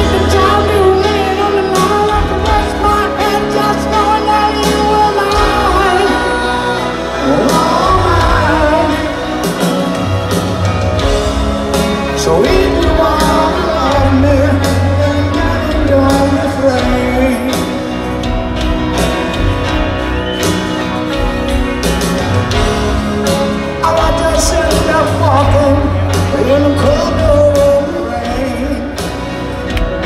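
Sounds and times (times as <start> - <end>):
man singing: 0.0 - 18.4, 23.0 - 29.4
live rock ballad through speakers: 0.0 - 30.0
piano: 0.0 - 30.0.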